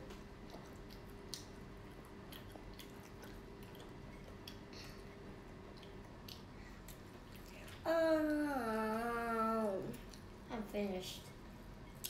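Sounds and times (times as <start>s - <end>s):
low steady hum: 0.0s - 12.0s
children chewing: 0.4s - 10.3s, 11.7s - 12.0s.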